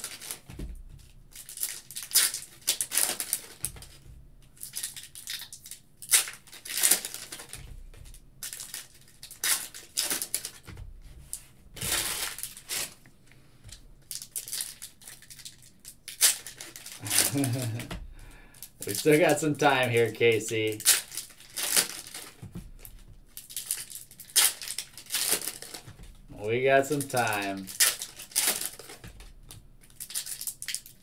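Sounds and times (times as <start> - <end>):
foil wrappers tearing and crinkling: 0.0 - 4.0, 4.6 - 7.6, 8.4 - 10.7, 11.8 - 13.0, 14.0 - 17.9, 18.6 - 31.0.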